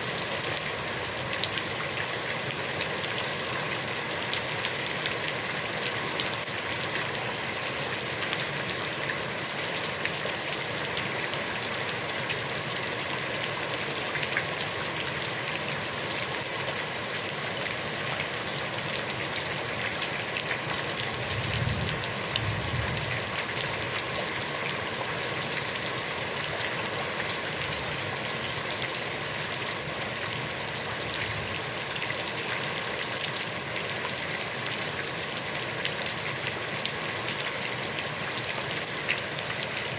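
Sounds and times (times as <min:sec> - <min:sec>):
heavy rain on water: 0:00.0 - 0:39.9.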